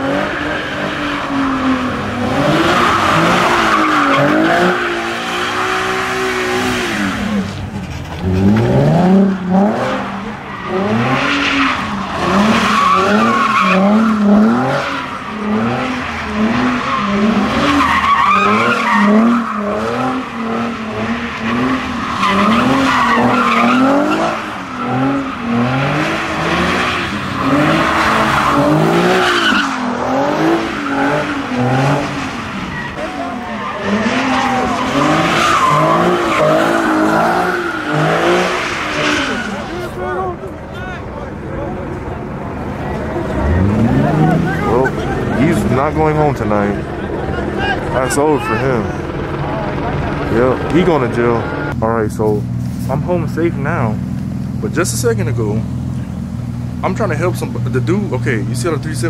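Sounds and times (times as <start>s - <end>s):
tire squeal: 0.0s - 41.1s, 42.6s - 51.8s
car engine revving: 0.0s - 59.0s.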